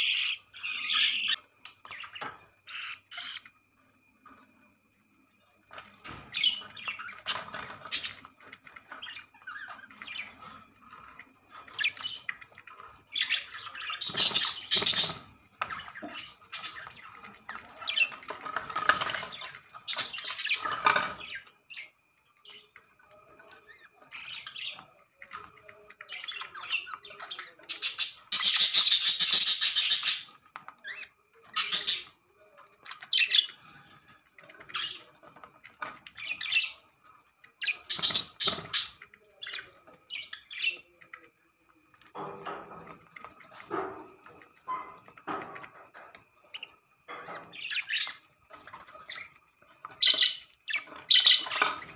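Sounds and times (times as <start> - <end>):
budgerigars chattering and squawking: 0.0 - 3.6, 6.1 - 21.9, 23.5 - 32.2, 32.8 - 41.2, 42.1 - 51.9.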